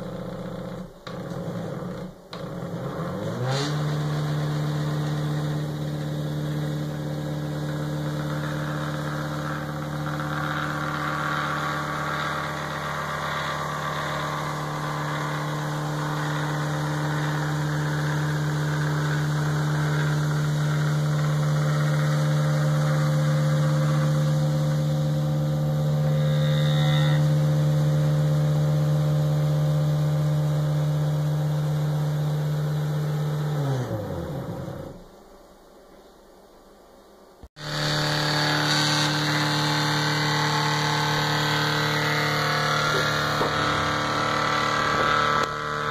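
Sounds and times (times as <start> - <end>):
cnc router motor hum: 0.0 - 35.0, 37.6 - 45.9.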